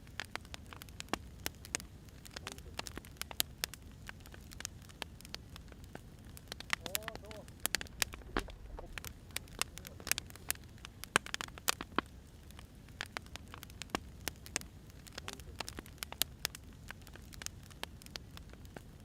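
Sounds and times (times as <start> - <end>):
firewood crackling: 0.0 - 19.0
low steady rumble: 0.0 - 19.0.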